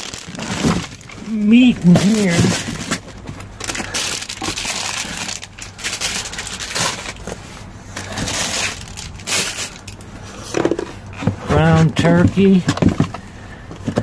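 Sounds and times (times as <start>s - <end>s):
plastic bags rustling: 0.0s - 14.0s.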